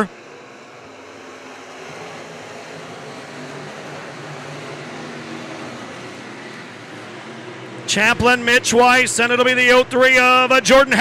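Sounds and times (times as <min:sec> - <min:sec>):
distant race car engines droning: 0:00.0 - 0:11.0.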